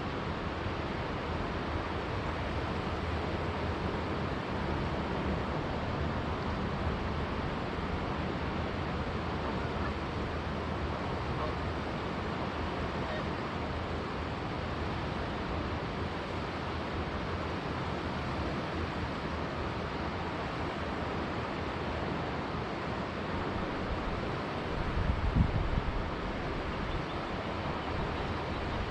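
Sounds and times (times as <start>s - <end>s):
river flowing: 0.0s - 28.9s.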